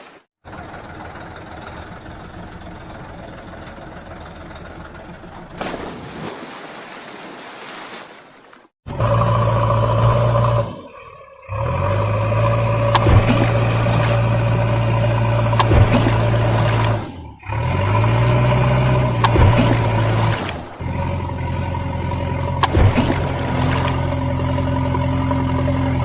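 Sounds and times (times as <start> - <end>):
vehicle engine running: 0.4 - 6.3, 8.9 - 26.0.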